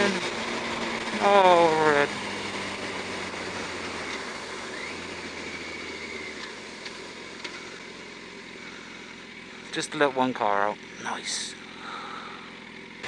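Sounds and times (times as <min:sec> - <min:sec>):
motorcycle engine running low: 0:00.0 - 0:13.0.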